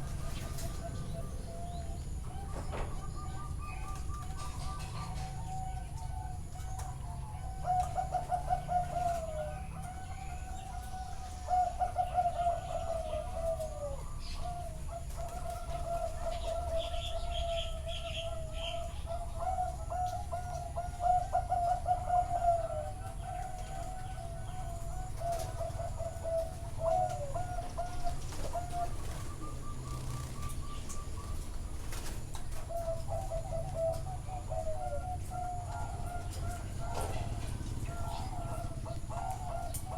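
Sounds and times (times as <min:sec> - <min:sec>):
doves cooing in trills: 0:00.0 - 0:39.9.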